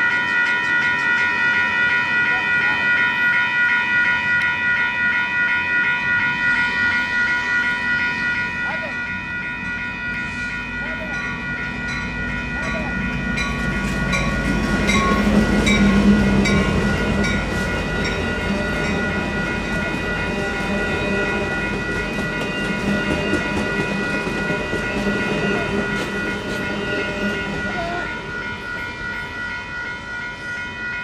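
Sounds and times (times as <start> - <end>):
crossing warning bells ringing: 0.0 - 31.0.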